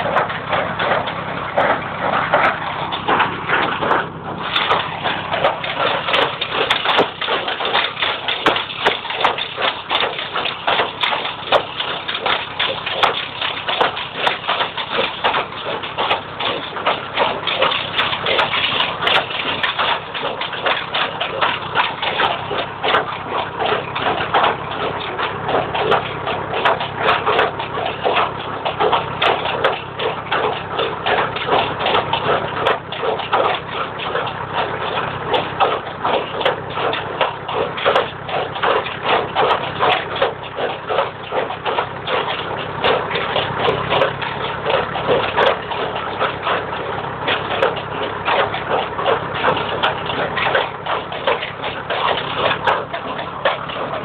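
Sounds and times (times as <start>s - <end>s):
baler clattering: 0.0s - 54.0s
tractor engine drone: 0.0s - 54.0s.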